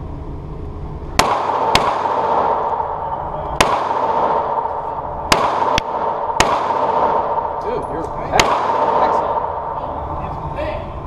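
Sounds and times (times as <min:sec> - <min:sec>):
pistol shots echoing indoors: 0:01.1 - 0:10.2.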